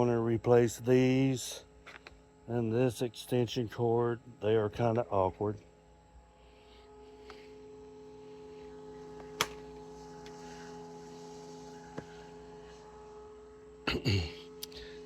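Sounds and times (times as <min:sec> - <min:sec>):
small cooling fans humming: 0:00.0 - 0:15.0.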